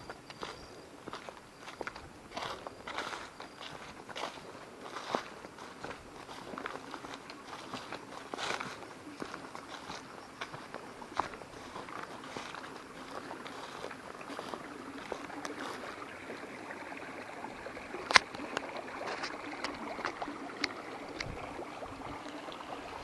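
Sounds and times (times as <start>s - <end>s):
water running and trickling: 0.3s - 23.0s.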